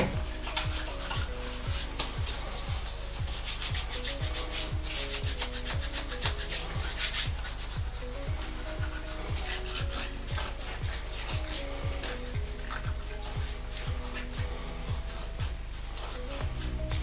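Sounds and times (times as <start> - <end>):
background music with kick drum: 0.0 - 17.0
hands rubbing together: 0.0 - 17.0.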